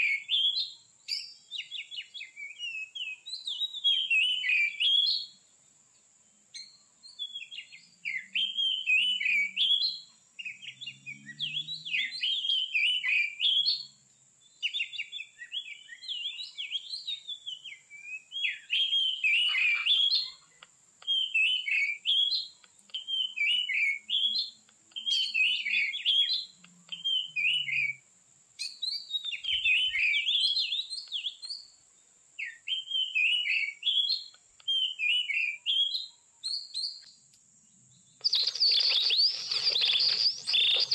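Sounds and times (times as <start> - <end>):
bird singing whistles and chatters: 0.0 - 5.4, 6.5 - 14.0, 14.6 - 28.0, 28.6 - 31.7, 32.4 - 37.2, 38.1 - 40.9.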